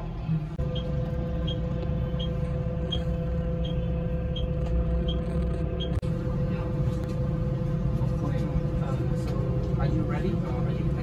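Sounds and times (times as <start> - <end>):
coach engine rumble: 0.0 - 11.0.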